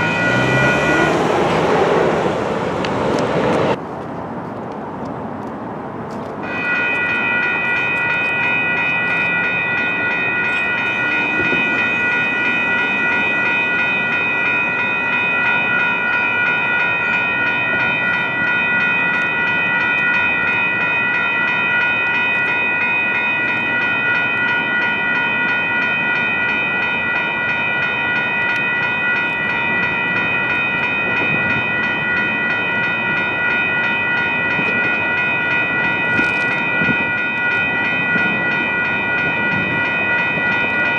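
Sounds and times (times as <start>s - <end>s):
high-pitched train whine: 0.0s - 3.8s, 6.4s - 40.9s
rumble of train cars: 0.0s - 40.9s.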